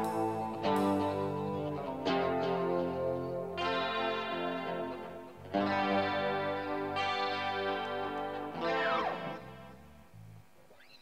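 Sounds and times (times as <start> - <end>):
strummed guitar chords: 0.0 - 10.3
bass guitar: 0.0 - 10.5.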